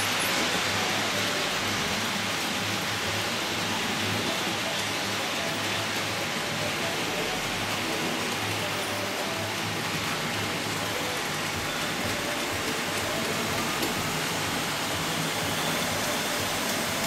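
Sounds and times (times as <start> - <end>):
model train wheels rushing on rails: 0.0 - 17.0.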